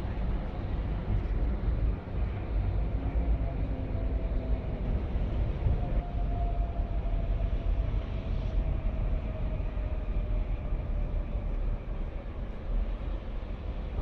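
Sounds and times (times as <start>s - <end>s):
faint vehicle whine: 0.0s - 14.0s.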